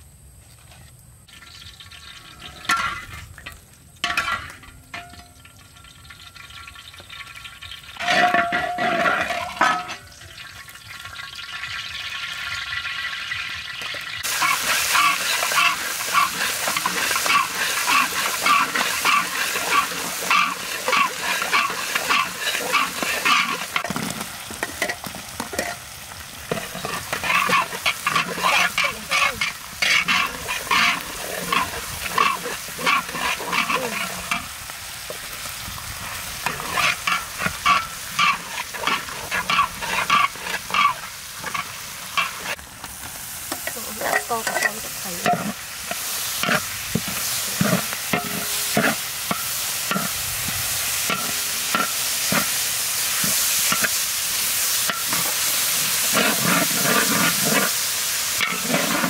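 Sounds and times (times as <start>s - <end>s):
oil sizzling in a wok: 0.0s - 59.0s
metal spatula scraping a wok: 1.3s - 10.2s, 12.0s - 35.3s, 36.0s - 42.6s, 43.6s - 59.0s.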